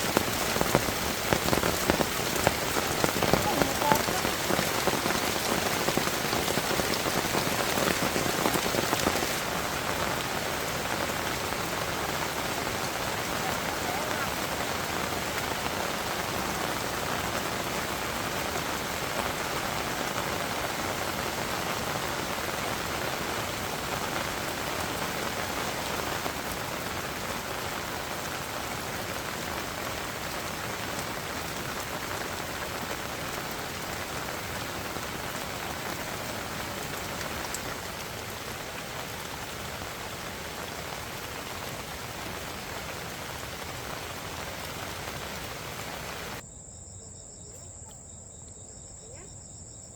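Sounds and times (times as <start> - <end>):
heavy rain falling: 0.0 - 46.4.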